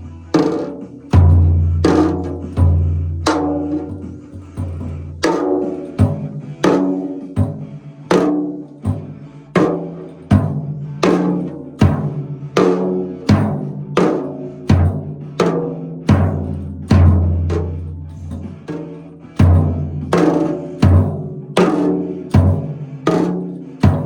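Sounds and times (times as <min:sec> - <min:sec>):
percussive background music with bass: 0:00.0 - 0:24.0.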